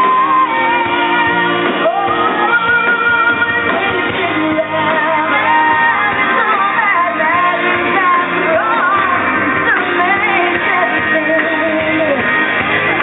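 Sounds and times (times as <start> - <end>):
amplified band playing: 0.0 - 13.0
woman singing: 0.0 - 13.0.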